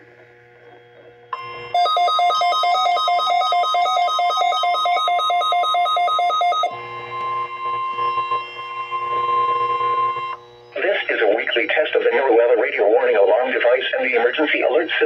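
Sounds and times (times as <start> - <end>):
steady alarm tone: 0.0 - 15.0.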